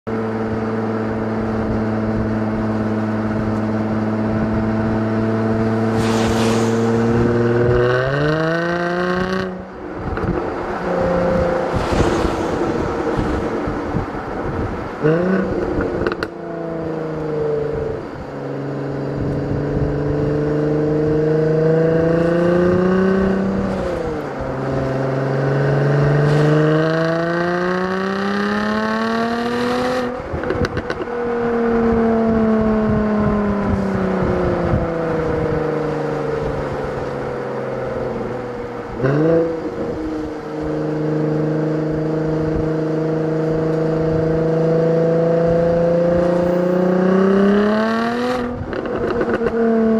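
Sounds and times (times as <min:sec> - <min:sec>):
car engine accelerating: 0:00.4 - 0:49.9.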